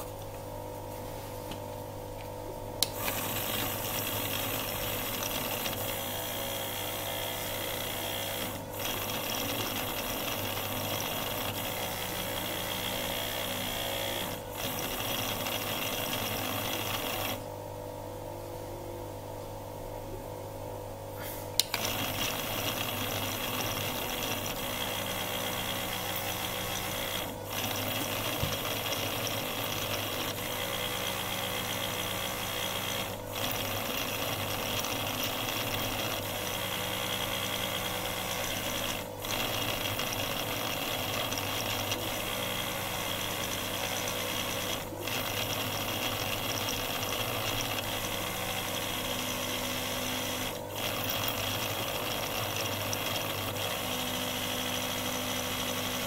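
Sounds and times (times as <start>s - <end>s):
electric bench machine buzzing: 0.0s - 56.0s.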